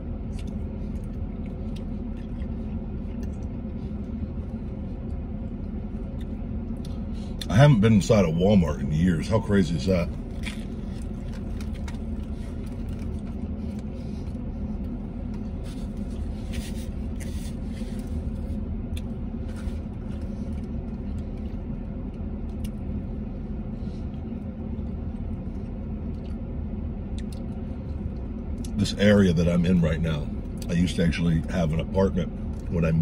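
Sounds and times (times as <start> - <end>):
man chewing a sandwich: 0.0 - 31.5, 32.3 - 32.9
vehicle rumble inside cab: 0.0 - 33.0.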